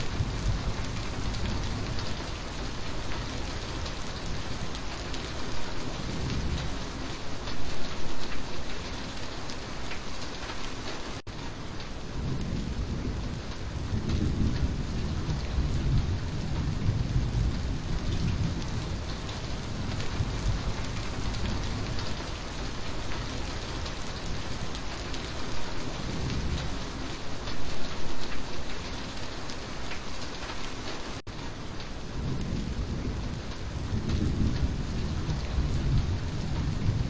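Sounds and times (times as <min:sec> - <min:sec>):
thunder rumbling: 0:00.0 - 0:08.9, 0:11.3 - 0:29.0, 0:31.5 - 0:37.0
heavy rainfall: 0:00.0 - 0:37.0.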